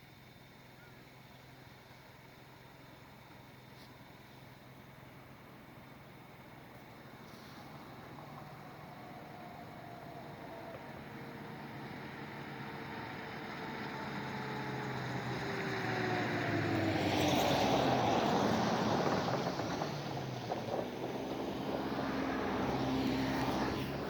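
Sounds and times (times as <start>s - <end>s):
engine drone passing by: 4.2s - 24.0s.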